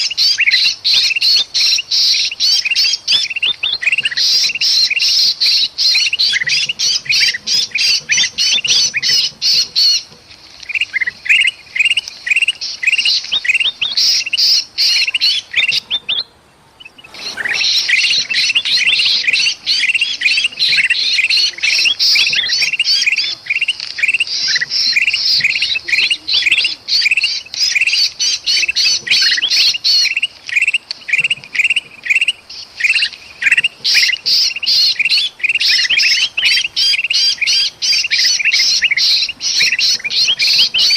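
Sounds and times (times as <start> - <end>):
bird distress calls: 0.0 - 40.9
bulbuls chattering and squawking: 0.0 - 40.9.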